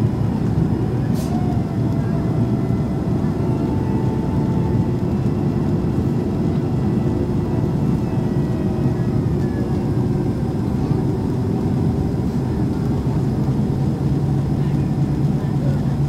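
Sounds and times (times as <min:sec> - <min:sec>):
airliner cabin engine and airflow noise: 0:00.0 - 0:16.0.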